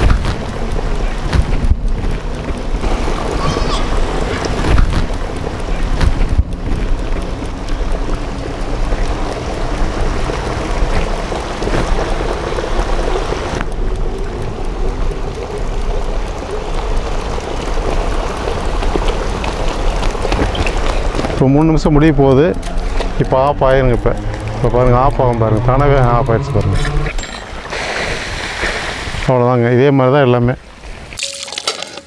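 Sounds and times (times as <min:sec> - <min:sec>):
wind buffeting microphone: 0:00.0 - 0:29.3.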